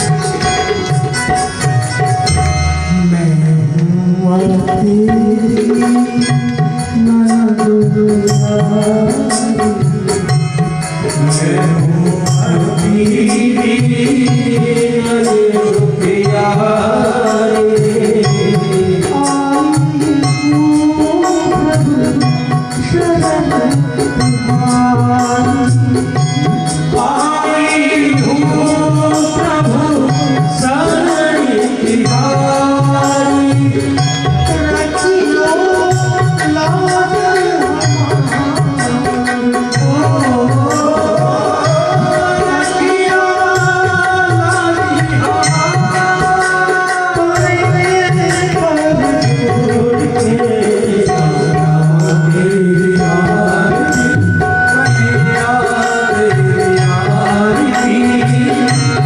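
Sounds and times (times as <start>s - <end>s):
gliding melody line: 0.0s - 59.0s
tabla beat: 0.0s - 59.0s
person singing: 2.3s - 59.0s.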